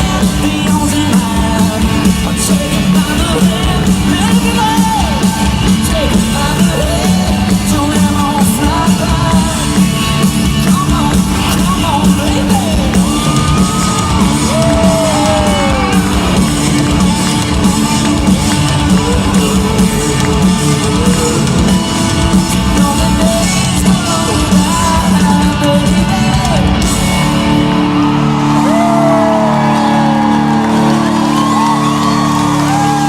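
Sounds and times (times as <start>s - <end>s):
voices singing and whooping: 0.0s - 27.0s, 27.6s - 33.0s
live country-rock band: 0.0s - 33.0s.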